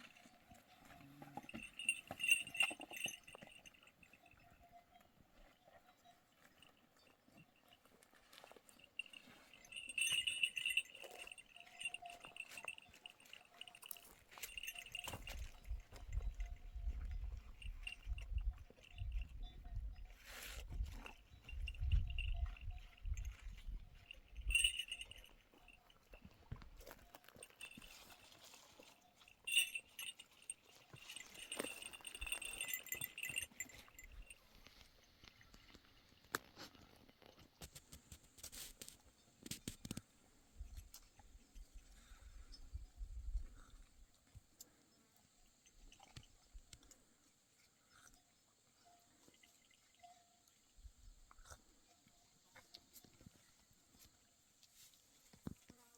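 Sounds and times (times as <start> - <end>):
sheep bells ringing: 0.0 - 36.2, 40.3 - 44.0, 44.7 - 54.1.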